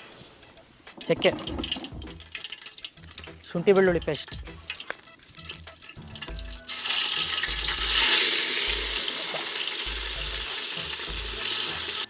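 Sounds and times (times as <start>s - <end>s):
paste sizzling in hot oil: 0.9s - 12.0s.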